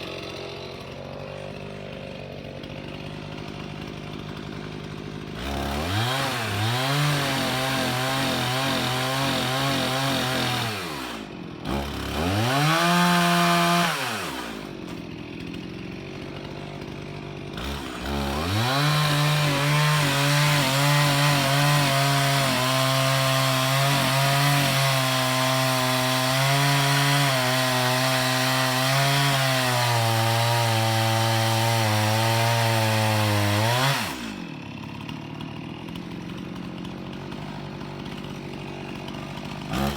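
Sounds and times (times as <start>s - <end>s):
chainsaw cutting and idling: 0.0s - 39.9s.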